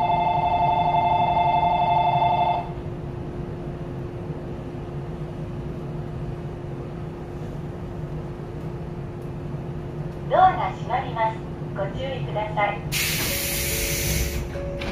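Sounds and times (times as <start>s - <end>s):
electric train equipment hum: 0.0s - 14.9s.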